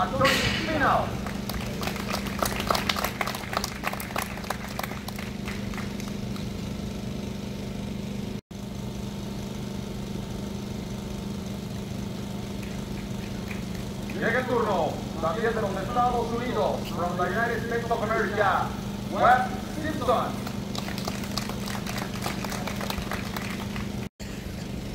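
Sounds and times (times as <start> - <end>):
low motor hum: 0.0 - 24.9.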